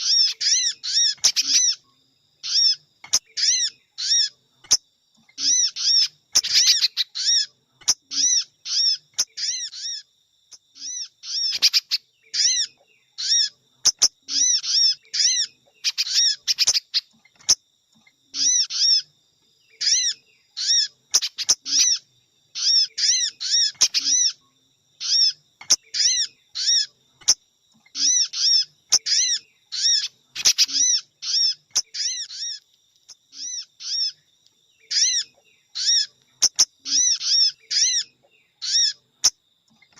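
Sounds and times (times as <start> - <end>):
high bird chirps: 0.0 - 39.9.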